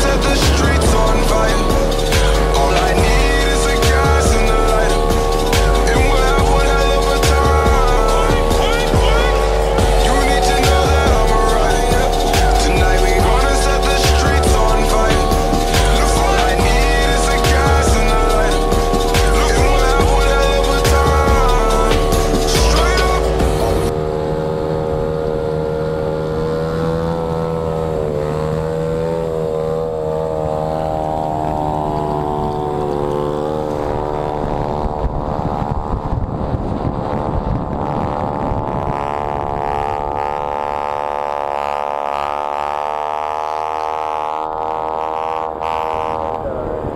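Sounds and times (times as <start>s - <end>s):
small motorbike engine revving: 0.0s - 46.9s
wind and road noise: 0.0s - 46.9s.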